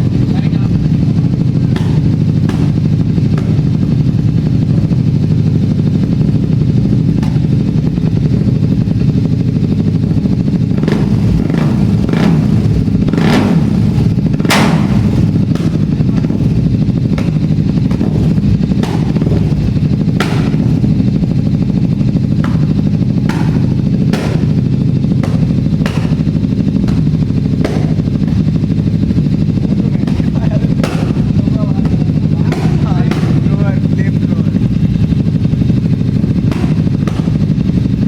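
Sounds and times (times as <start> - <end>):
motorbike engine idling loudly: 0.0 - 38.0.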